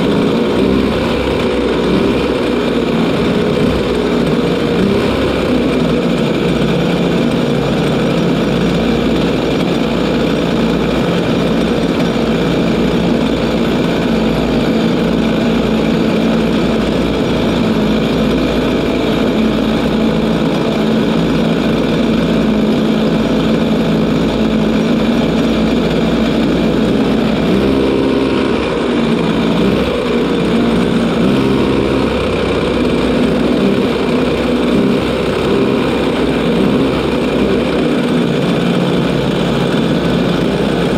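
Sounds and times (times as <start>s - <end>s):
kart engine idling: 0.0s - 40.9s
second kart engine idling: 0.0s - 40.9s.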